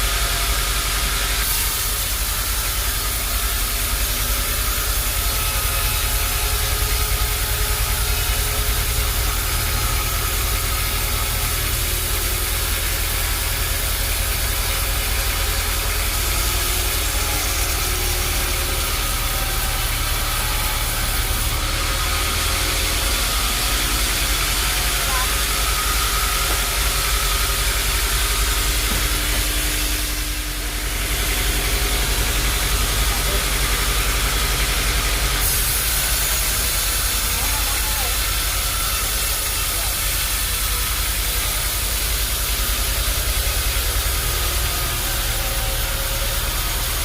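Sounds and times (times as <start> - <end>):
constant machinery hiss: 0.0 - 47.0.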